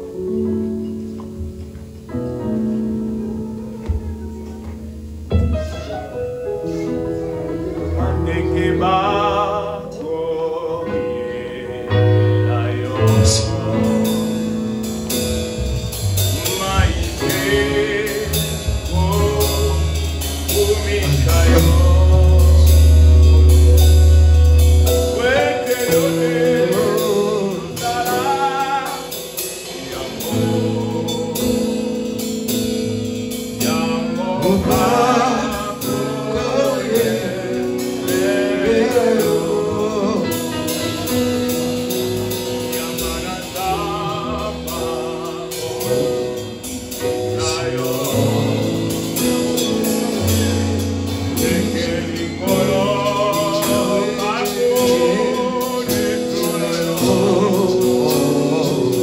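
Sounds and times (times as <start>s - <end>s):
held instrumental chords: 0.0s - 59.0s
voices singing gospel: 6.1s - 59.0s.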